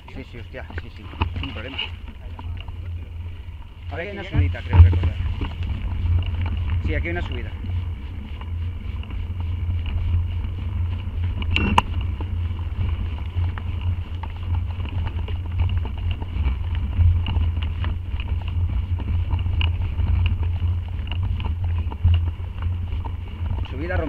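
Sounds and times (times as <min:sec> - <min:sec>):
bike rattles and clicks: 0:00.0 - 0:24.0
low rumble of trail vibration: 0:00.0 - 0:24.0
wind on microphone: 0:00.0 - 0:24.0.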